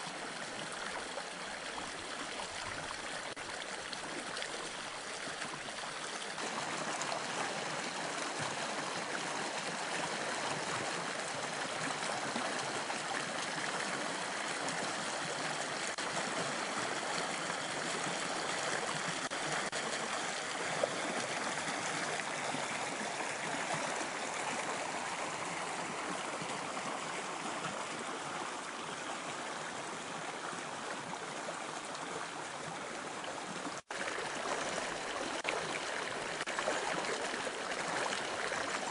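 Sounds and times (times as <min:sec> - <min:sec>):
creek water rushing over rocks: 0:00.0 - 0:38.9.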